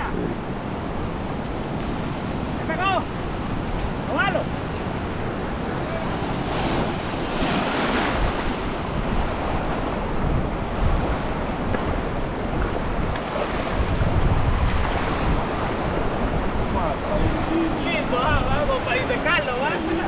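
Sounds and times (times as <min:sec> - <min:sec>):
ocean surf washing: 0:00.0 - 0:20.0
wind on microphone: 0:00.0 - 0:20.0.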